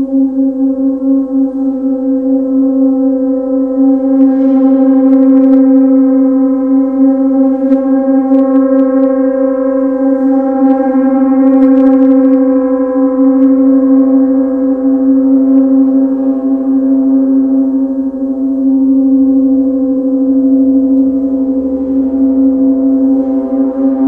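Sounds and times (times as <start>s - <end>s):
tam-tam gong drone: 0.0s - 24.0s.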